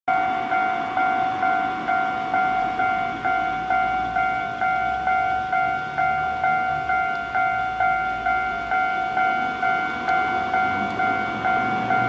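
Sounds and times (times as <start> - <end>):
level crossing bell ringing: 0.1 - 12.0.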